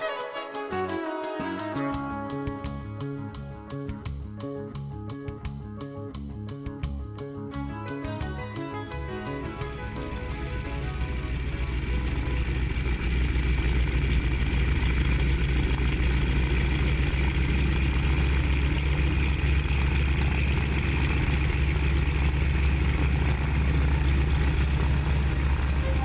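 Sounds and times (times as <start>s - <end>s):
biplane radial engine drone: 0.0s - 26.0s.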